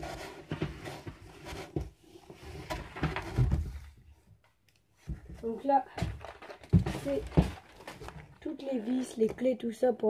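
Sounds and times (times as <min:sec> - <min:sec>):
cardboard rustling and scraping: 0:00.0 - 0:04.0, 0:05.0 - 0:09.4.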